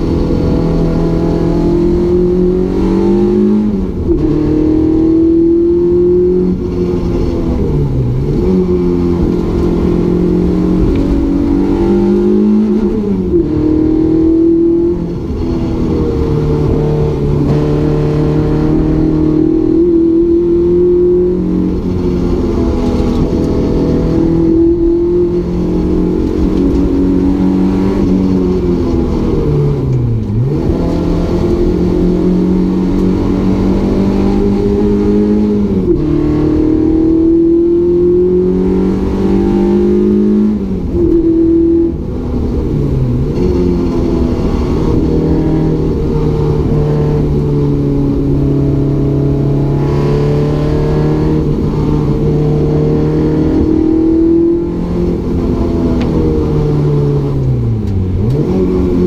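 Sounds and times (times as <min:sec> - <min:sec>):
race car engine revving through gears: 0:00.0 - 0:59.0.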